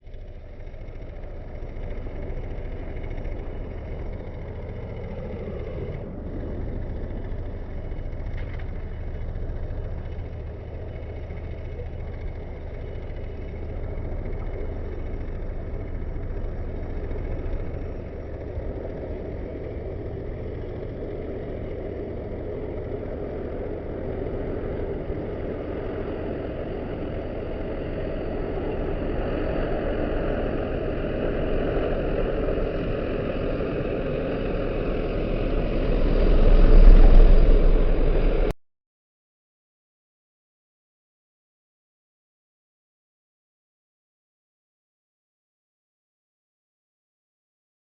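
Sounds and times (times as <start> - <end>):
tractor engine droning: 0.0 - 38.6.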